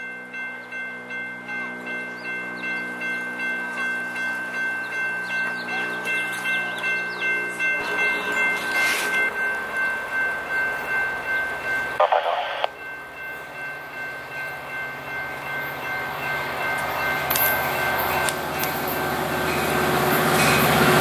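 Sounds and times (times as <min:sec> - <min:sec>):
crossing bells ringing: 0:00.0 - 0:21.0
train rumble: 0:00.0 - 0:21.0.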